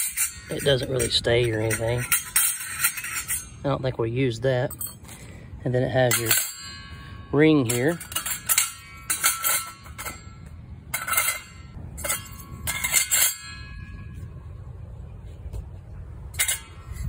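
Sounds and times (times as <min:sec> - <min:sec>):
metal ring scraping against rim: 0:00.0 - 0:14.4, 0:16.2 - 0:17.0.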